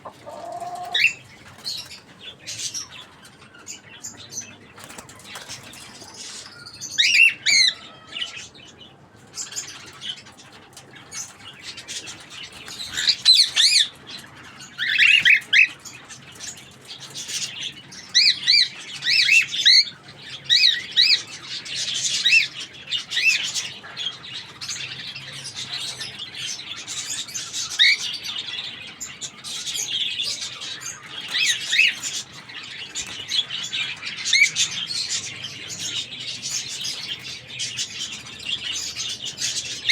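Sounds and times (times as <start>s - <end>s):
cockatiels chirping and squawking: 0.0s - 8.5s, 9.4s - 39.9s.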